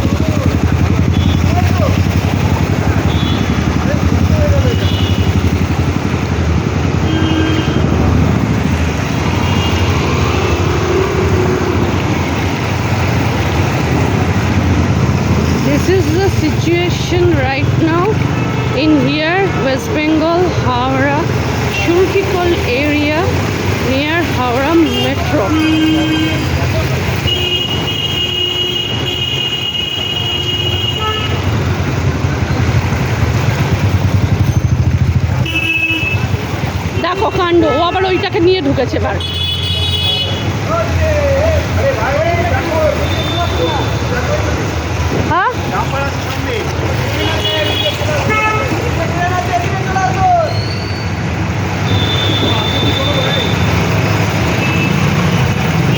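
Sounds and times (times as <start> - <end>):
road traffic engines: 0.0 - 55.9.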